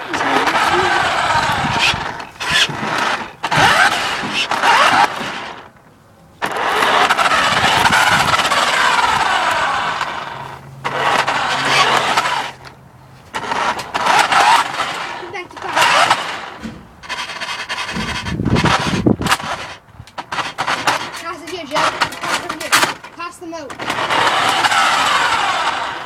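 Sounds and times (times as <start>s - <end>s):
toy car electric motor whining: 0.0s - 5.8s, 6.4s - 26.0s.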